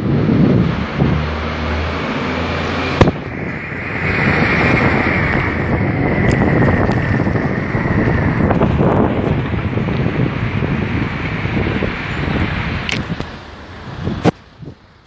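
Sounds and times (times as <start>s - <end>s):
high whine: 0.0s - 14.8s
wind buffeting microphone: 0.0s - 15.0s.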